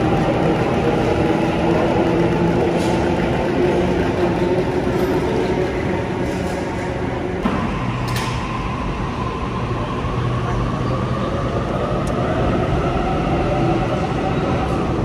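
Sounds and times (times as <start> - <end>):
electric train running past: 0.0 - 15.0
rumble of wheels and motors: 0.0 - 15.0.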